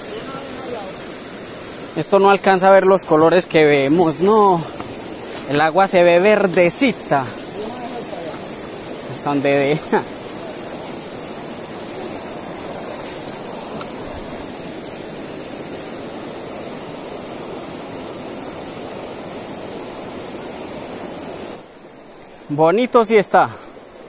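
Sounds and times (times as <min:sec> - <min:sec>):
mountain stream rushing over rapids: 0:00.0 - 0:24.0.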